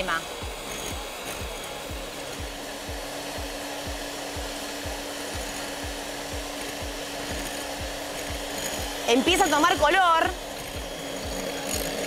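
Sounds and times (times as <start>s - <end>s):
electric hand mixer whisking: 0.0s - 12.0s.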